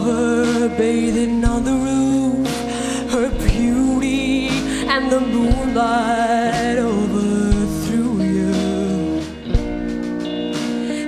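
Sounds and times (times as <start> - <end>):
woman singing with vibrato: 0.0 - 9.4
bass guitar: 0.0 - 11.0
drum hits: 1.3 - 6.9, 7.5 - 10.9.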